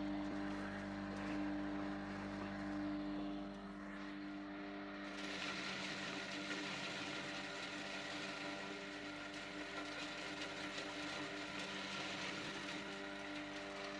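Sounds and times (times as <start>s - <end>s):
feed chopper motor humming: 0.0s - 13.9s.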